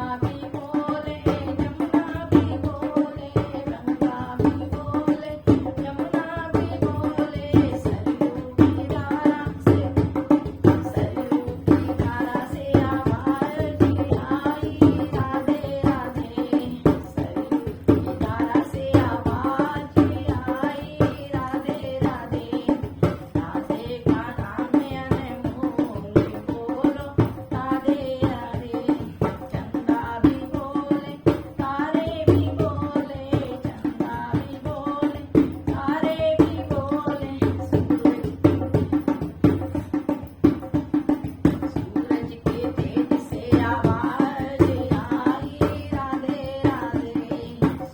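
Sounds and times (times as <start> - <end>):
person singing devotional song: 0.0 - 47.9
steady percussion rhythm: 0.0 - 47.9
tabla beat: 0.0 - 47.9.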